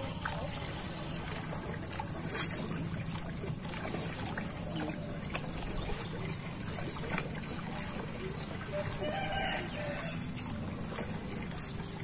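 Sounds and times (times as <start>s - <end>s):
paddle splashing in water: 0.0s - 12.0s
water lapping against boat: 0.0s - 12.0s.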